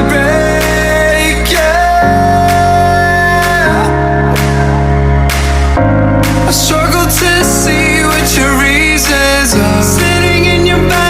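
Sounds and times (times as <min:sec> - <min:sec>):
slow background song: 0:00.0 - 0:11.0.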